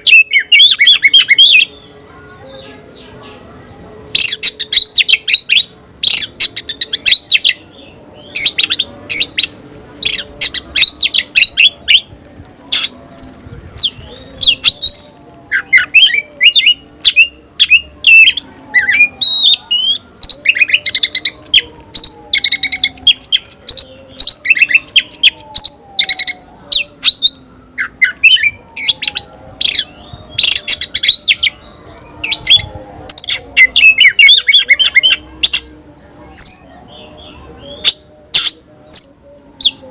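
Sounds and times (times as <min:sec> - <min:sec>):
bird chirps and trills: 0:00.0 - 0:12.1, 0:12.7 - 0:39.9.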